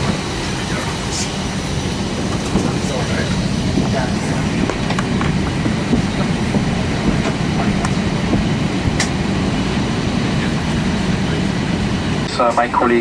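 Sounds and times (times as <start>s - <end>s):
cabin air conditioning rumble: 0.0s - 13.0s.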